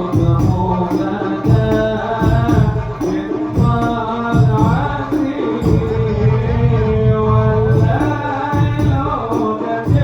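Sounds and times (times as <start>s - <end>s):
hand-struck frame drums: 0.0s - 6.3s, 7.7s - 10.0s
man singing melismatic notes: 0.0s - 10.0s.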